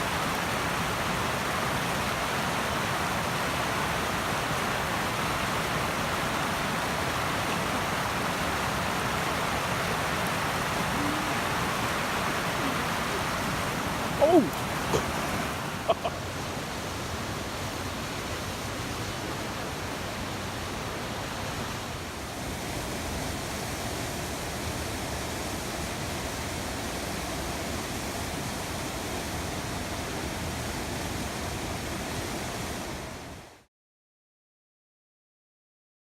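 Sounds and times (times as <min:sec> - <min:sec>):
rushing water: 0:00.0 - 0:33.7.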